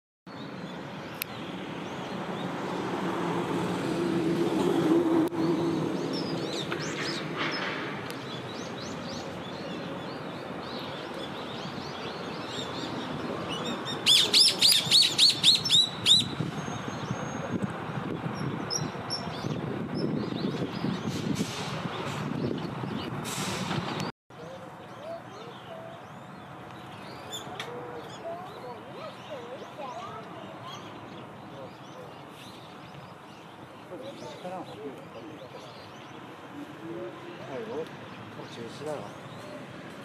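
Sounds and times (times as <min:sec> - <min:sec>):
birds chirping: 0:00.3 - 0:04.0, 0:04.6 - 0:23.3, 0:23.9 - 0:40.0
low traffic rumble: 0:00.3 - 0:40.0.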